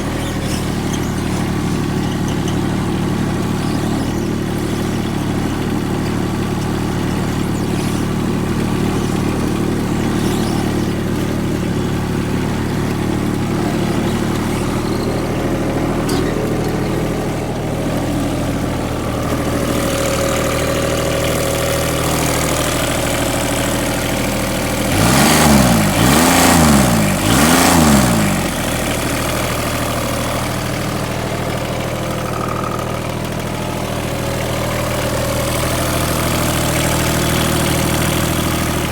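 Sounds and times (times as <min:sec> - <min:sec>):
mower diesel engine running: 0:00.0 - 0:38.9.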